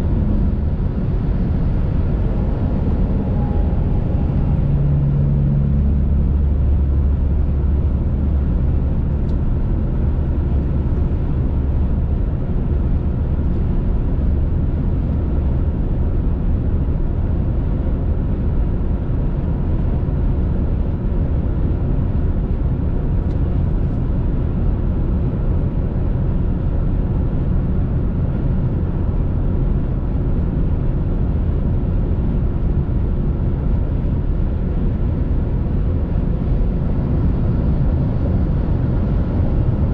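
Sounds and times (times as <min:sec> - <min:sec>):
car cabin road and engine rumble: 0:00.0 - 0:39.9.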